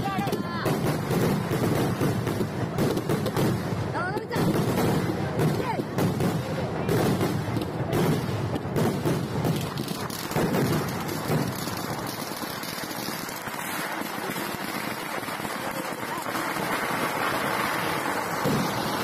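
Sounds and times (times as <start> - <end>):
fireworks exploding: 0.0 - 19.0.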